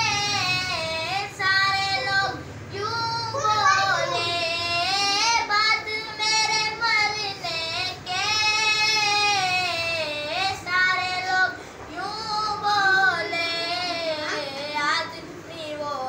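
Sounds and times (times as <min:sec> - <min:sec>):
boy singing solo: 0:00.0 - 0:16.0.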